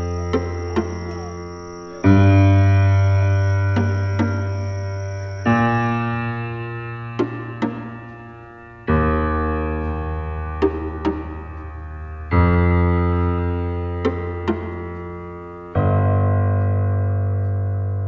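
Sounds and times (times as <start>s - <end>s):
light struck notes: 0.0s - 16.8s
slow sustained chords: 0.0s - 18.0s.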